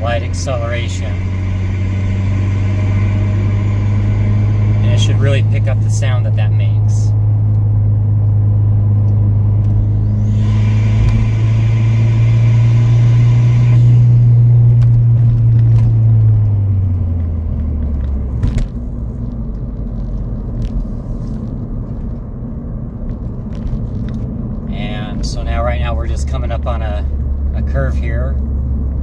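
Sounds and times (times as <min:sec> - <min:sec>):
car engine droning: 0:00.0 - 0:29.0.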